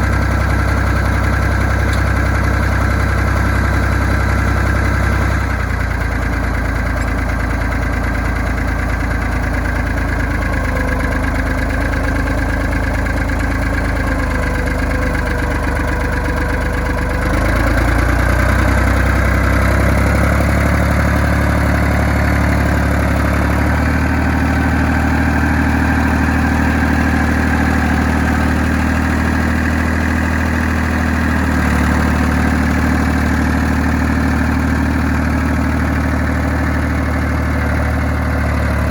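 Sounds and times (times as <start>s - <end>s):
dozer engine running: 0.0s - 38.9s.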